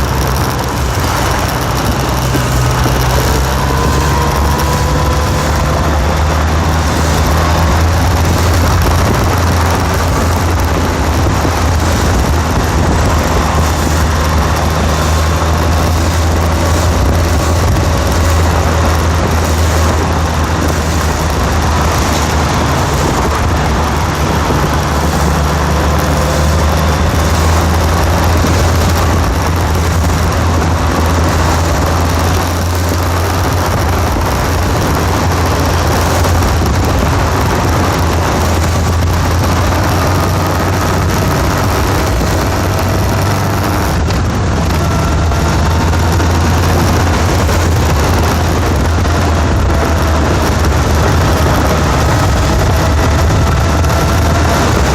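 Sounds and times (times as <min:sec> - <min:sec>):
engine humming steadily: 0:00.0 - 0:54.9.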